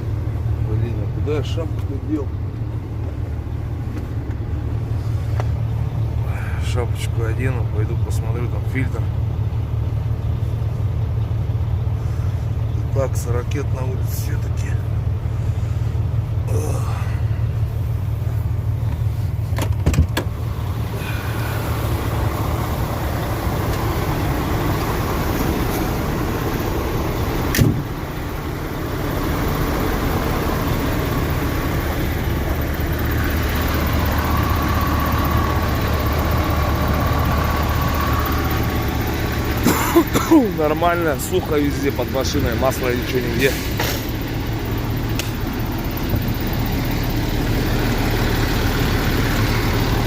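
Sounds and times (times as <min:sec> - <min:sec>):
truck diesel engine idling: 0:00.0 - 0:50.0.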